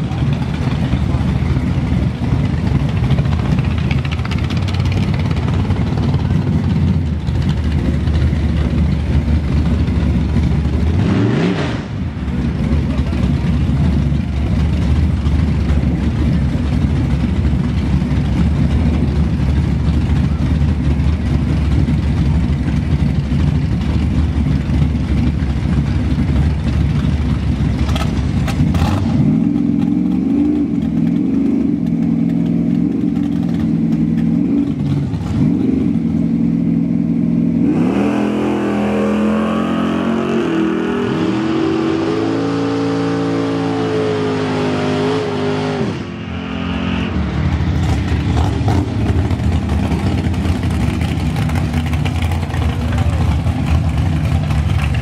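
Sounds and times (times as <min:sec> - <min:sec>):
loud race car engine running: 0:00.0 - 0:55.0.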